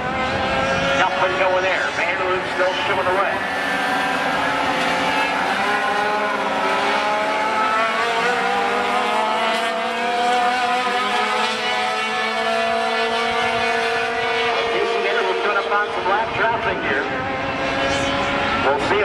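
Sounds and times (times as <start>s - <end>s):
racing truck engines: 0.0s - 19.0s.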